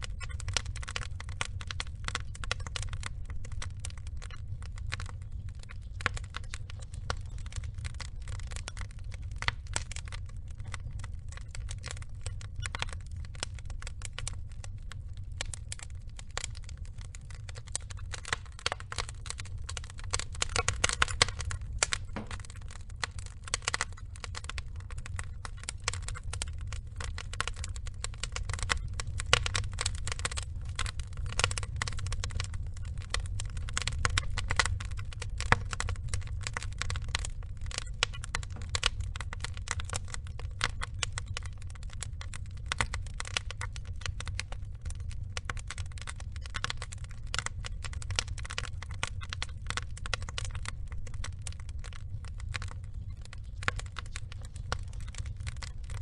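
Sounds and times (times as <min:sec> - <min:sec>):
low rumble of flame: 0:00.0 - 0:56.0
sharp pops from fire: 0:00.0 - 0:56.0
wood fire crackling: 0:00.0 - 0:56.0.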